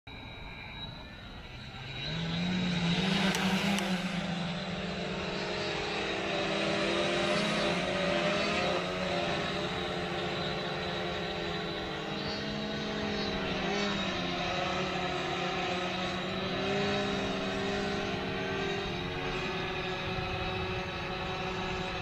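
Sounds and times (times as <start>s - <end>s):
drone motors and propellers: 0.1s - 22.0s.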